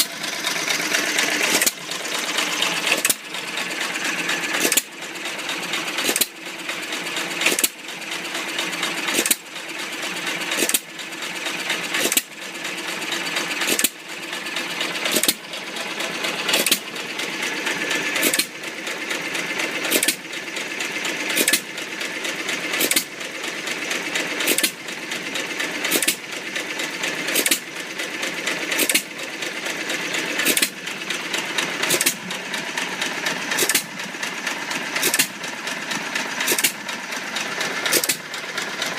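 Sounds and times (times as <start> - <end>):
rapid mechanical clatter: 0.0 - 38.9.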